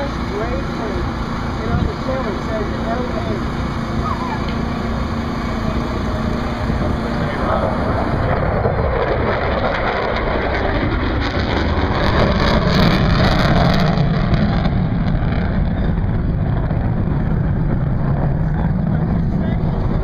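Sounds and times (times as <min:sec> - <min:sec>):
jet aircraft passing low: 0:00.0 - 0:20.0.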